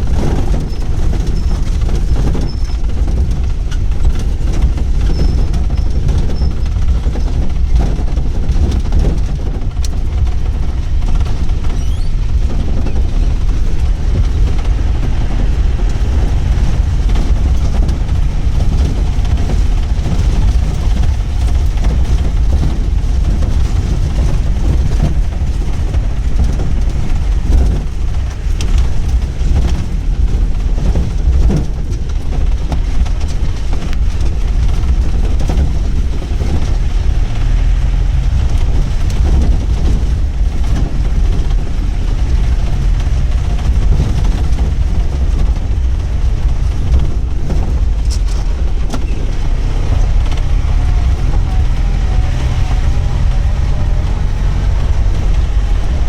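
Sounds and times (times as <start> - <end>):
knocks and rattles: 0.0 - 56.0
vehicle engine and road rumble: 0.0 - 56.0.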